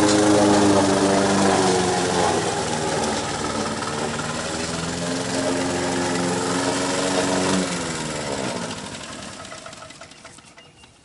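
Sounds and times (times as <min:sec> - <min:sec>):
lawn mower engine winding down: 0:00.0 - 0:11.0.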